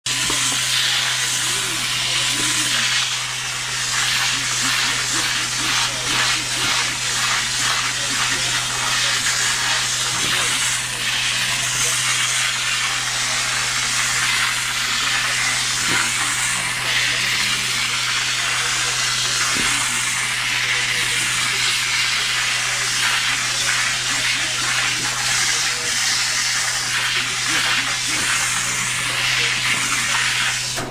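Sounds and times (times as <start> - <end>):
extraction cleaner motor hum: 0.0 - 30.9
spray and suction hiss: 0.1 - 30.9.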